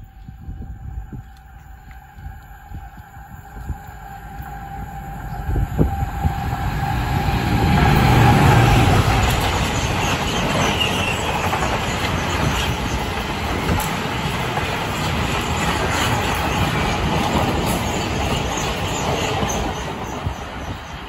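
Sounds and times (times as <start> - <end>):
high-speed train passing: 0.0 - 21.0.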